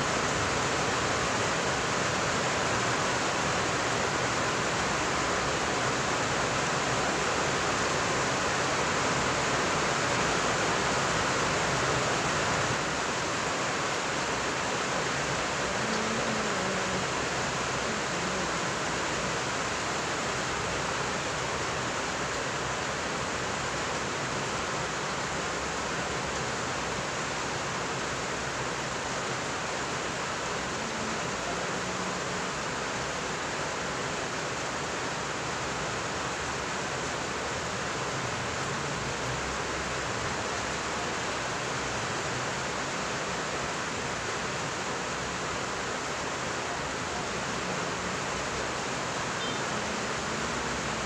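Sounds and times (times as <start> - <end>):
steady rushing hiss: 0.0 - 51.0.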